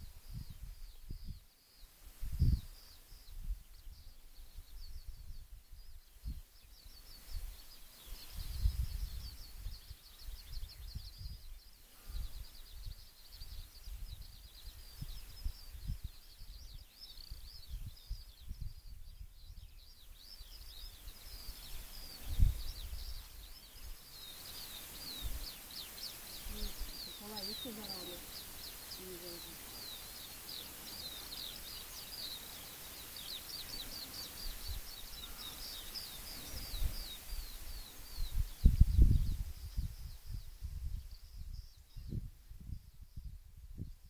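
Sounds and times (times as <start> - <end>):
small birds singing: 0.0 - 44.0.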